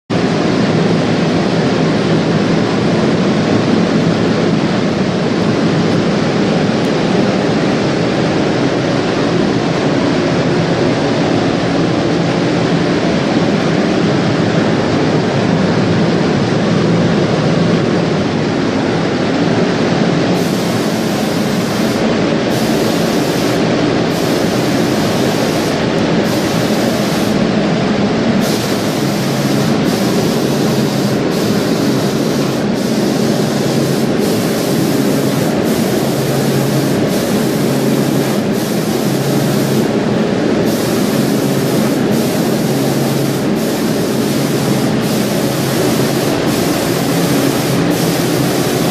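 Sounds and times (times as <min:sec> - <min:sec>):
spray-painting machine running: 0:00.1 - 0:48.9.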